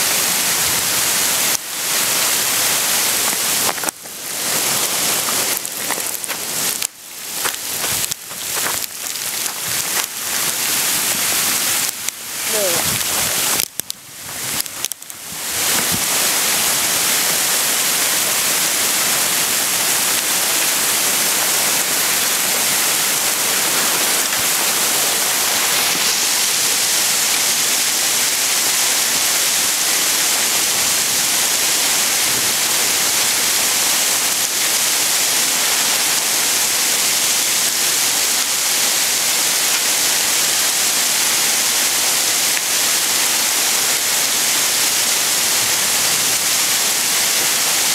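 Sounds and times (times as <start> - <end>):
hail falling: 0.0 - 47.9.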